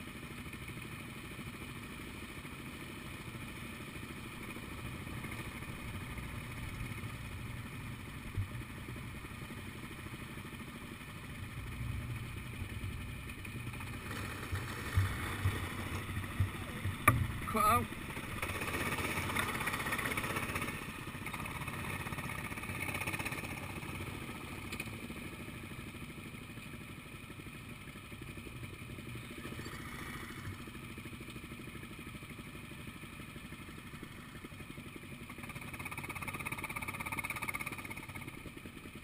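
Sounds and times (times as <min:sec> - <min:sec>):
go-kart engine running: 0:00.0 - 0:39.0.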